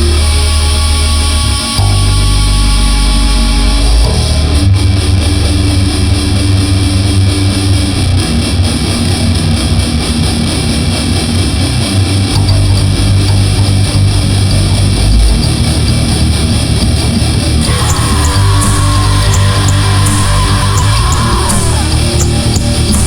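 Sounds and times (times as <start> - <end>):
guitar-led rock music: 0.0 - 23.0.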